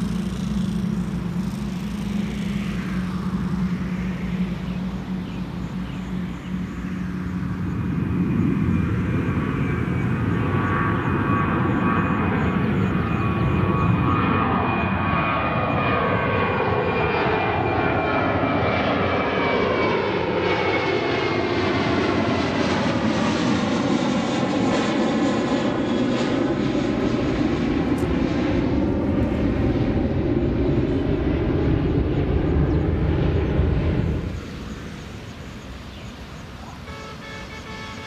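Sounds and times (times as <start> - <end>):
high jet engine whine: 0.0 - 38.0
jet engines roaring: 0.0 - 38.0.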